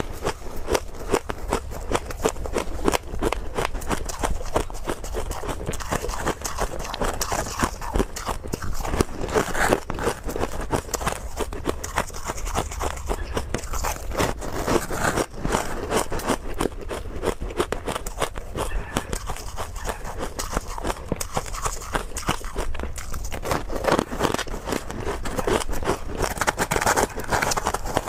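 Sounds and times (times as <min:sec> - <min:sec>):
chewing crushed ice: 0:00.0 - 0:28.0.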